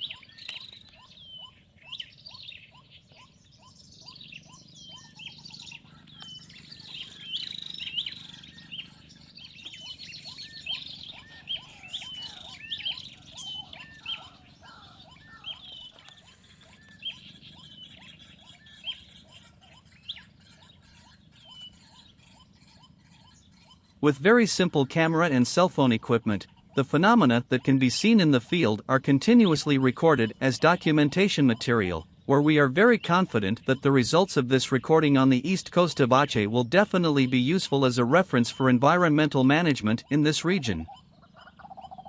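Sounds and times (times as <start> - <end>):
bird trill: 0.0 - 42.0
birds chirping: 0.0 - 42.0
sharp high bird calls: 0.0 - 42.0.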